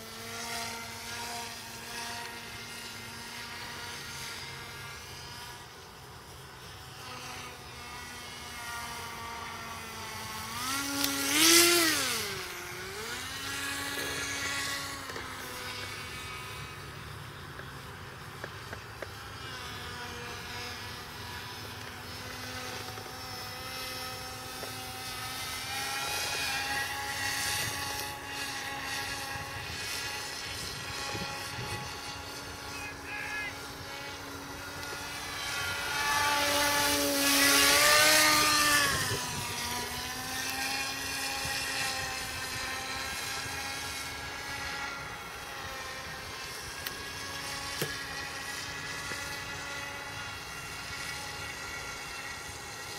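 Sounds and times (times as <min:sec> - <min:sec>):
model aircraft motor droning: 0:00.0 - 0:52.9.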